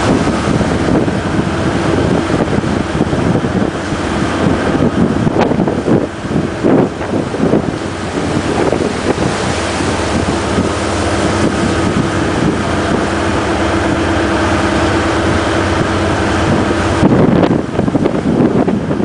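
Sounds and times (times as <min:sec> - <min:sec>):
boat engine droning: 0:00.0 - 0:19.0
low rumble: 0:00.0 - 0:19.0
rough sea: 0:00.0 - 0:19.0
wind buffeting microphone: 0:00.0 - 0:19.0.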